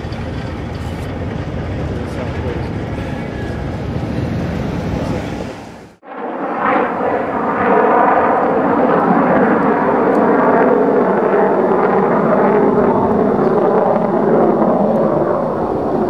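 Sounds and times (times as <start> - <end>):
aircraft piston engines droning: 0.0 - 16.0.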